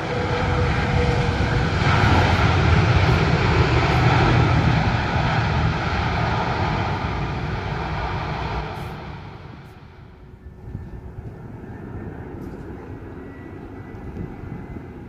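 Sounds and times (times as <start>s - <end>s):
jet engines roaring at takeoff: 0.0s - 15.0s.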